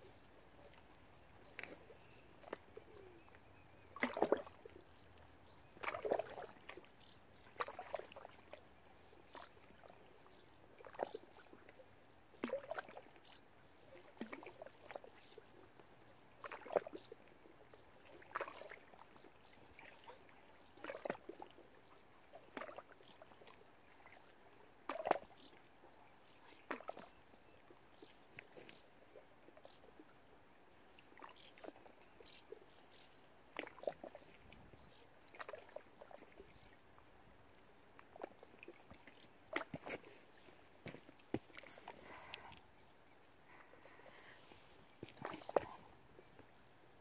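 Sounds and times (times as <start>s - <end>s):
water lapping: 0.0s - 47.0s.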